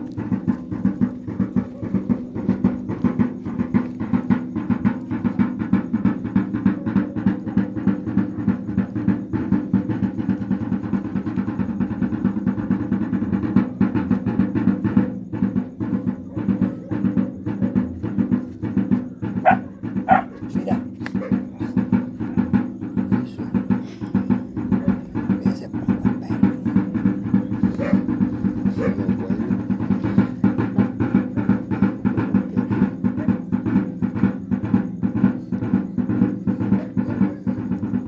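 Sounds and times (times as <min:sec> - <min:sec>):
drum beaten in fast rhythm: 0:00.0 - 0:38.0.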